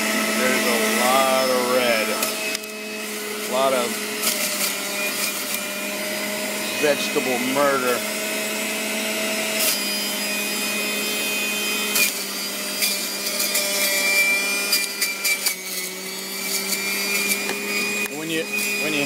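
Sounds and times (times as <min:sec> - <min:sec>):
electric juicer motor running: 0:00.0 - 0:19.0.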